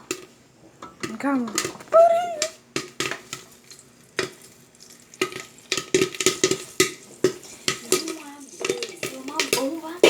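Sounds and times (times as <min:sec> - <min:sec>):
popcorn popping in a pan: 0:00.0 - 0:10.0.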